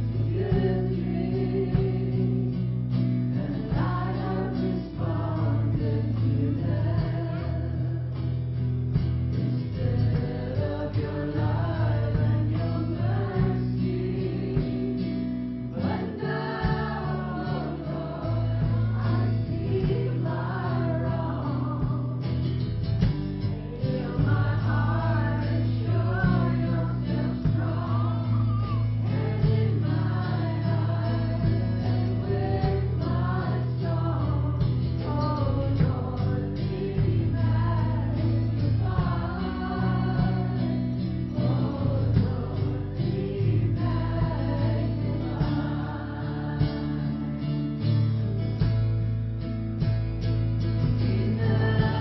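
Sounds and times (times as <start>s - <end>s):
people singing a melody: 0.0s - 48.6s, 50.6s - 52.0s.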